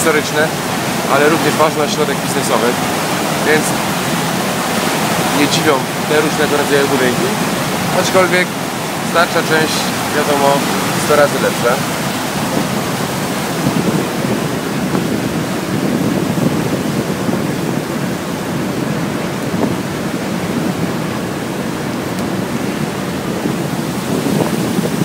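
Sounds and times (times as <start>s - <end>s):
water rushing along ship hull: 0.0s - 25.0s
wind on microphone: 0.0s - 25.0s.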